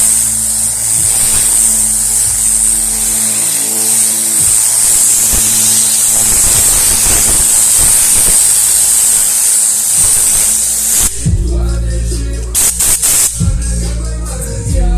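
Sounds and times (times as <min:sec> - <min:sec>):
compressed-air gun hissing: 0:00.0 - 0:14.7.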